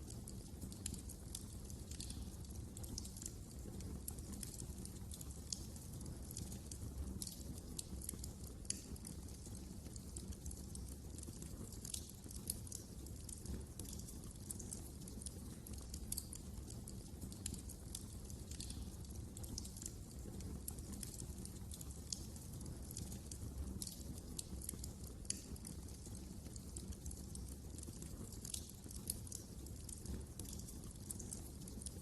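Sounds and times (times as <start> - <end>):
fireplace fire crackling: 0.0 - 32.0.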